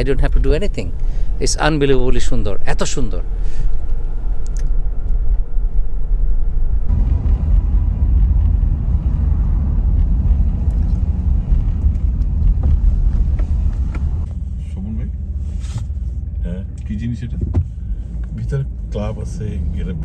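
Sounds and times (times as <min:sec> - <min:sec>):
car driving rumble inside cabin: 0:00.0 - 0:20.0.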